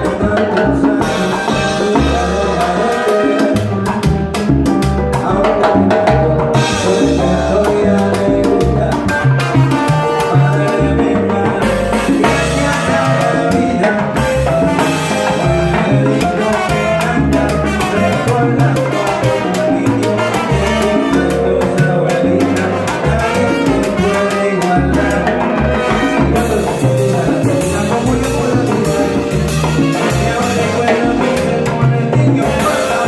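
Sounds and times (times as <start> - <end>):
bass line: 0.0 - 33.0
hand percussion and drums: 0.0 - 33.0
salsa band playing: 0.0 - 33.0.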